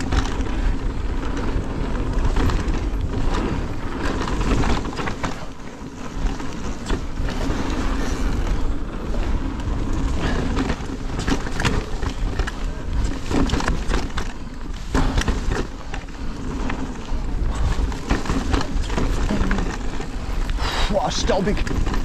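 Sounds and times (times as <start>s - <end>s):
bike frame rattling and knocking: 0.0s - 22.0s
tyres crunching over loose ground: 0.0s - 22.0s
wind rushing over microphone: 0.0s - 22.0s.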